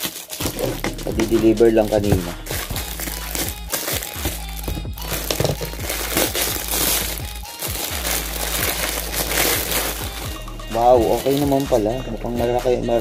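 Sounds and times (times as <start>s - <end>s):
plastic wrap crinkling: 0.0s - 11.8s
background music: 0.0s - 13.0s.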